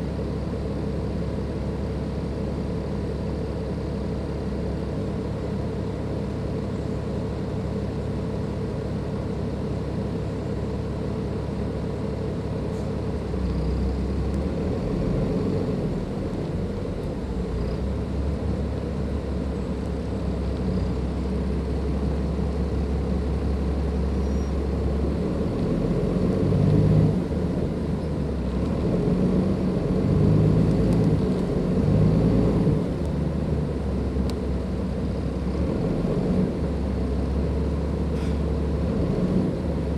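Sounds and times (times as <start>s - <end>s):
bus diesel engine: 0.0s - 39.9s.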